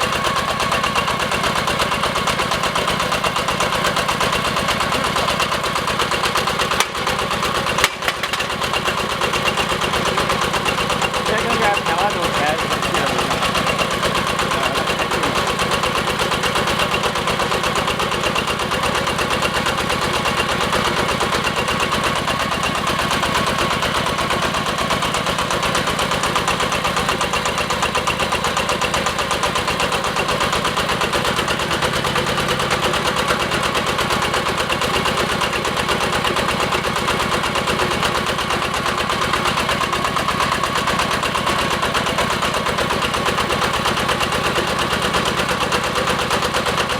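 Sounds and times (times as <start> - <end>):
diesel engine running steadily: 0.0 - 46.9.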